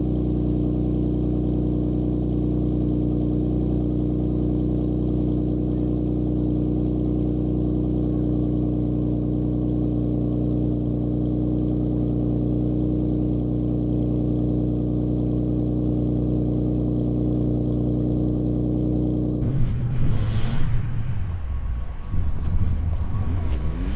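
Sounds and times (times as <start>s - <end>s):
car engine idling: 0.0s - 19.6s, 20.4s - 23.9s.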